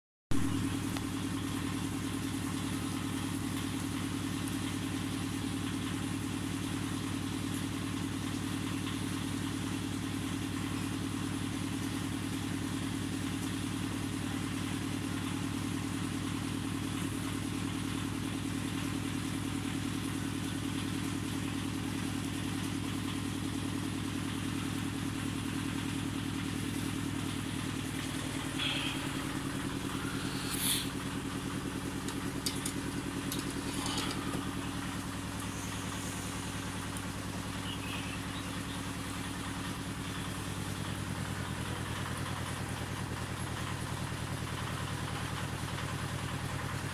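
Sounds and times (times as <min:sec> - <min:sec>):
motor humming steadily: 0:00.3 - 0:46.9.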